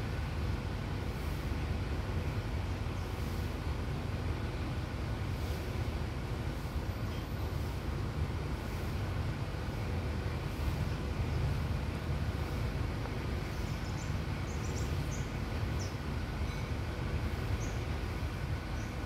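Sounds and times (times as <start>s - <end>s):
low outdoor background rumble: 0.0s - 19.0s.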